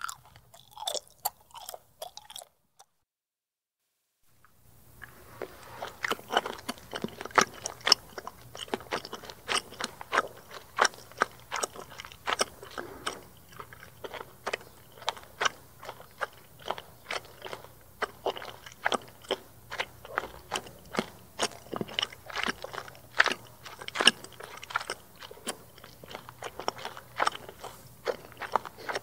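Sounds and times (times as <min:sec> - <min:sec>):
gum chewing smacks: 0:05.0 - 0:29.0.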